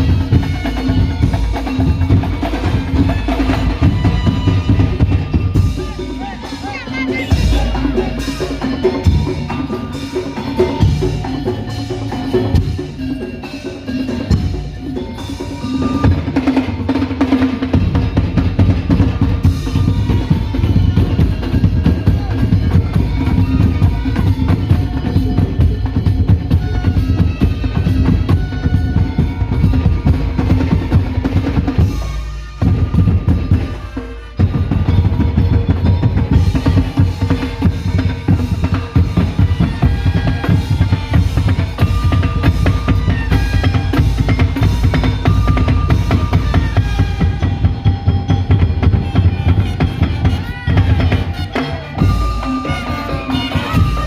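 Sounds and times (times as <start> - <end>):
low drum beats: 0.0 - 54.0
percussion ensemble drumming: 0.0 - 54.0.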